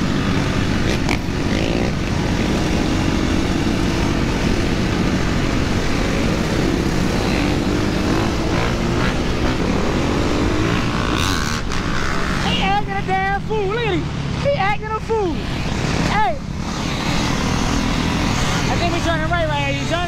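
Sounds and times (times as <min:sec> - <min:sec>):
dirt bike and atv engines revving: 0:00.0 - 0:20.0.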